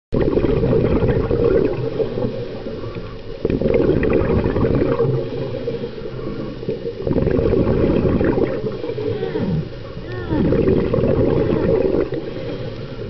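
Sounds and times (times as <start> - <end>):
regulator bubbles underwater: 0.1 - 13.0.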